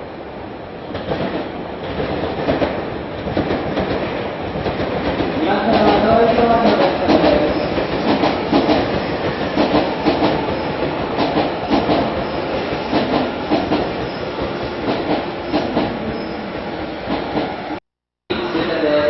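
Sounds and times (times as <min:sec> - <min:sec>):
train rumble on board: 0:00.7 - 0:19.0.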